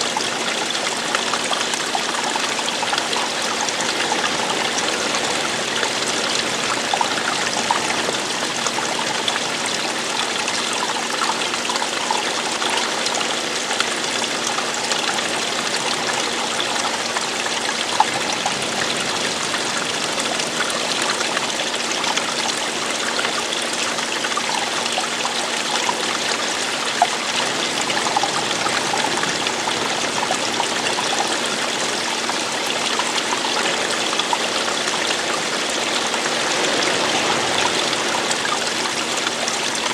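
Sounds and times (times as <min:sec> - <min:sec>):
loud water splashes: 0:00.0 - 0:39.9
water rushing and trickling: 0:00.0 - 0:39.9.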